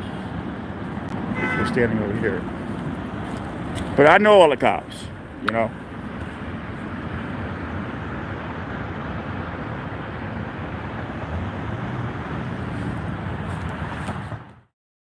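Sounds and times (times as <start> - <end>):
road traffic rumble: 0.0 - 14.7.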